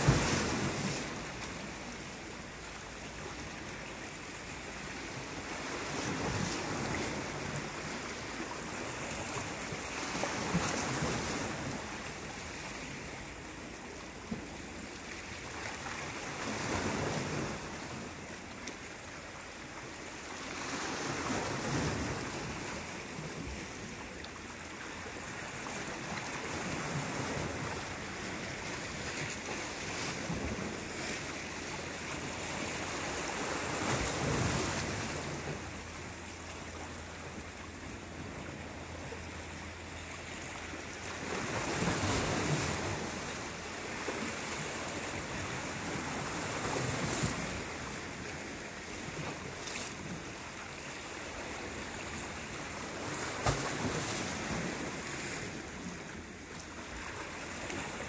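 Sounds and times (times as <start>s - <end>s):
waves splashing over rocks: 0.0s - 58.0s.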